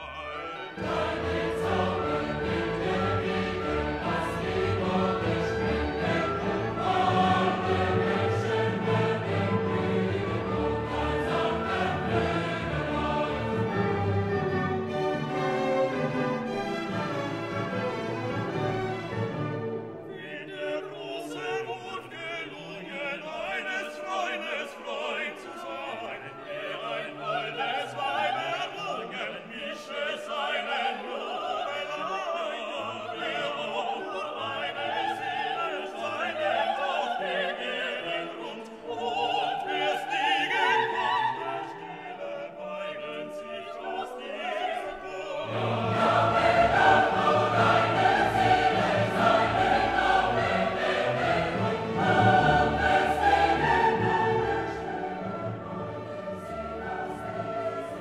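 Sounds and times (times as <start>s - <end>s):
orchestral music with operatic singing: 0.0s - 58.0s.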